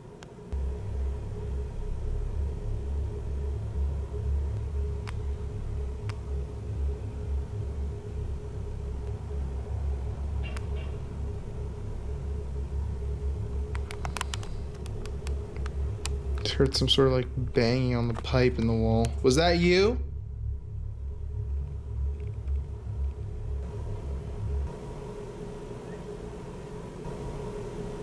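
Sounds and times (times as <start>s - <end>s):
low rumble with hum: 0.0s - 28.0s.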